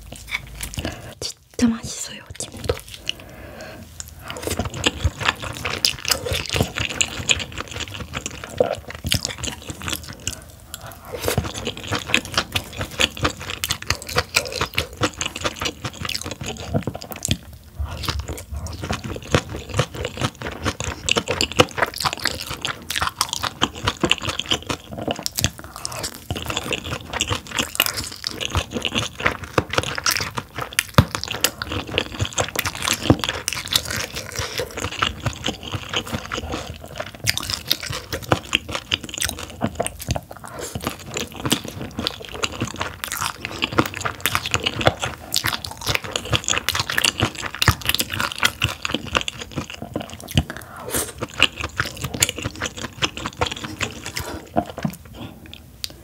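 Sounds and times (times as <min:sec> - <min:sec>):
chewing and crunching: 0:00.0 - 0:01.4, 0:02.1 - 0:56.0.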